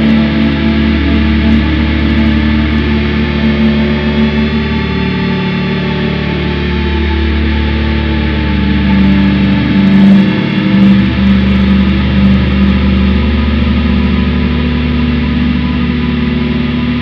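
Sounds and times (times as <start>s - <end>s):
ambient drone music: 0.0s - 17.0s.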